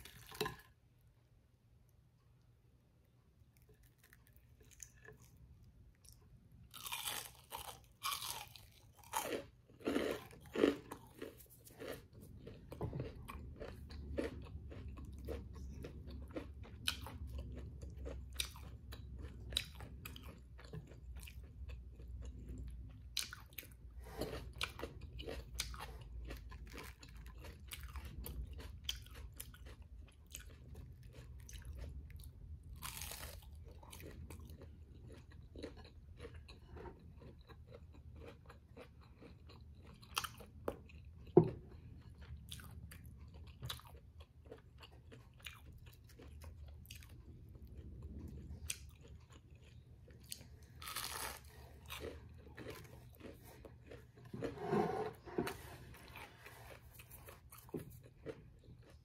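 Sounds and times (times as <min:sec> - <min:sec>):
chewing with small crackles: 0:03.0 - 0:59.0
crunching bites of fried food: 0:03.6 - 0:54.2.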